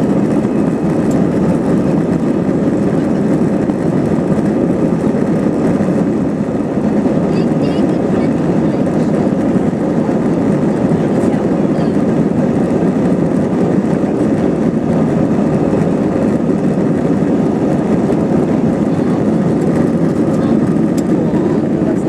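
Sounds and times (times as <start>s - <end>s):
jet engines at takeoff thrust: 0.0s - 22.0s
wheels rumbling on runway: 0.0s - 22.0s.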